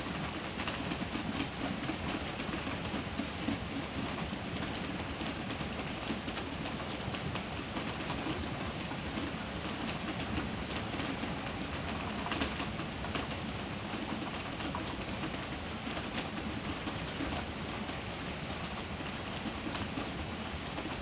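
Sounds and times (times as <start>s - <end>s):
heavy rain on roof: 0.0s - 21.0s.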